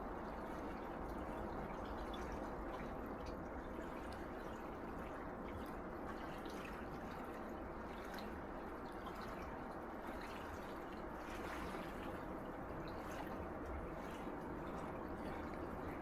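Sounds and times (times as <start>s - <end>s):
water trickling and dripping: 0.0s - 16.0s
small waves washing on shore: 0.2s - 16.0s.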